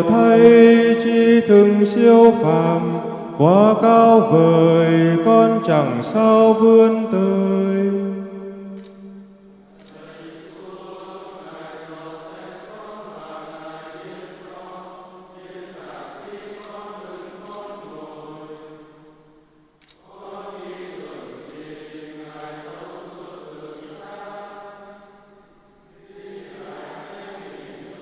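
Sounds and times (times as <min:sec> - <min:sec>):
men chanting in unison: 0:00.0 - 0:08.1, 0:09.9 - 0:18.8, 0:20.1 - 0:25.0, 0:26.0 - 0:28.0.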